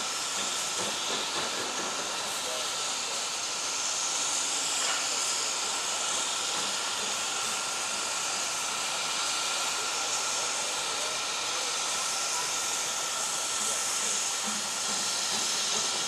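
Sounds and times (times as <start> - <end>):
steam hissing: 0.0 - 16.0.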